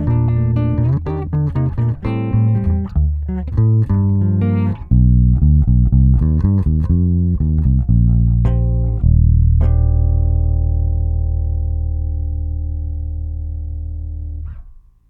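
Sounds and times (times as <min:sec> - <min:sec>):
electric bass guitar notes: 0:00.0 - 0:15.0.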